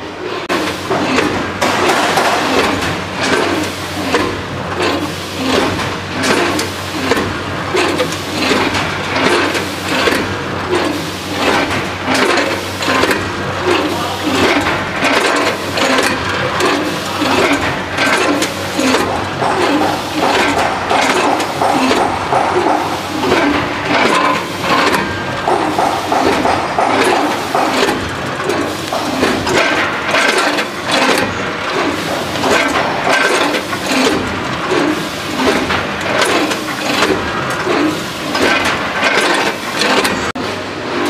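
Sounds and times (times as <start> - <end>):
machine hum: 0.0 - 41.0
hopper gates clacking: 1.0 - 40.4
snacks clattering through metal pans: 1.0 - 40.4.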